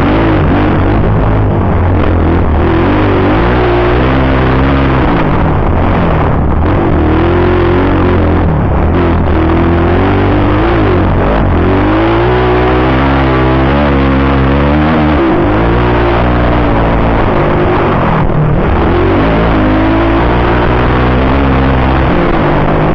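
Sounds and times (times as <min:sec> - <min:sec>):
motocross bike engine revving: 0:00.0 - 0:22.9.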